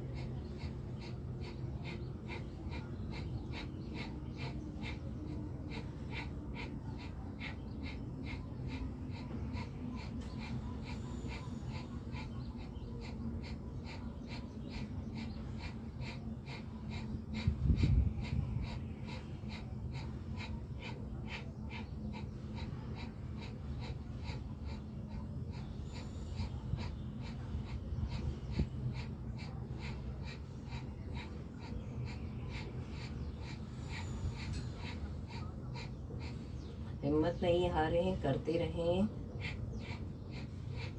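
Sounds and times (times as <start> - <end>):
forceful rapid nose breathing: 0.0 - 40.9.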